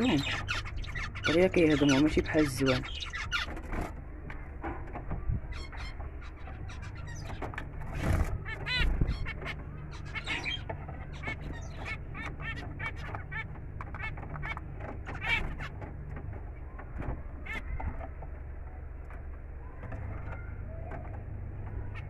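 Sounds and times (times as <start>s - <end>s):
zebra finches calling: 0.0s - 4.4s, 5.4s - 18.4s, 19.8s - 22.0s
low steady hum: 0.0s - 22.0s.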